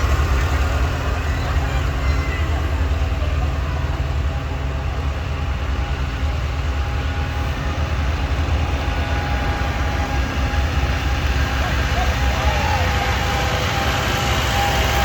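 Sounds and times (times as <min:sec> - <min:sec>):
tractor engines rumbling: 0:00.0 - 0:15.0.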